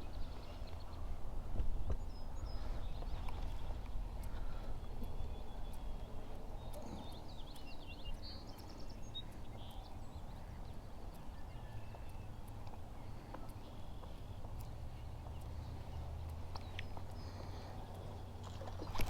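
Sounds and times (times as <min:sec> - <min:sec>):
low rumble of wind and water: 0:00.0 - 0:19.0
faint clicks: 0:01.6 - 0:19.0
bird chirping: 0:01.8 - 0:19.0.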